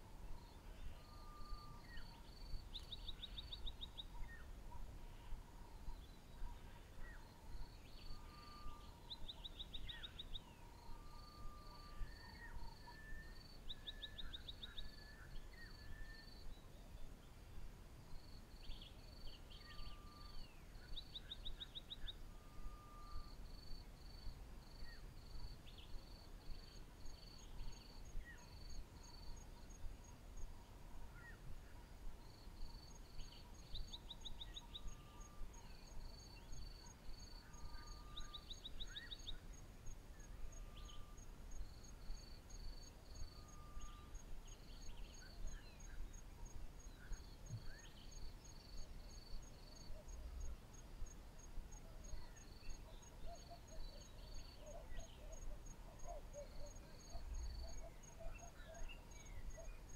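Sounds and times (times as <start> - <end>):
insects chirping: 0.3 - 16.5, 18.2 - 59.9.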